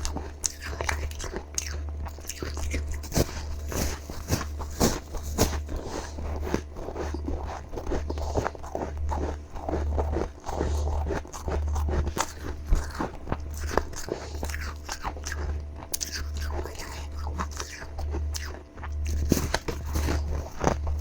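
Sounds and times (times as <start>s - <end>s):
crunchy chewing of frost: 0.0s - 21.0s
low steady hum: 0.0s - 21.0s.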